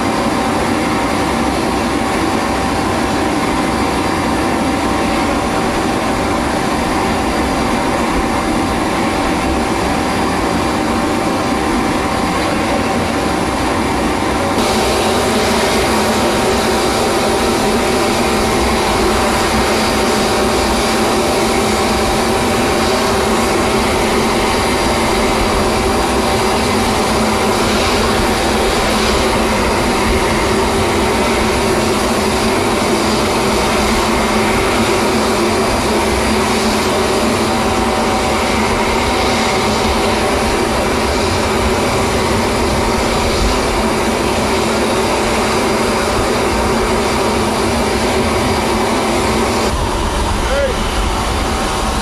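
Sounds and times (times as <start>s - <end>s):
loud engine with whine: 0.0s - 52.0s.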